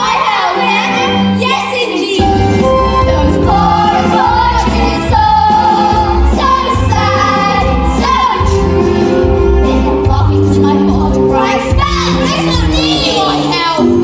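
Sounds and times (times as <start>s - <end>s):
instrumental accompaniment with bass: 0.0s - 14.0s.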